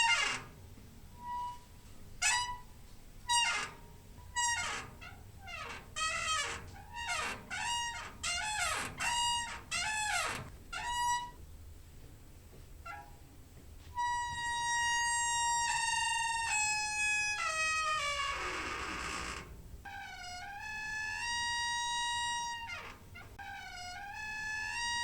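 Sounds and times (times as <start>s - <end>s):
door hinge squeaking: 0.0s - 0.6s, 1.2s - 11.4s, 12.8s - 13.2s, 14.0s - 25.0s.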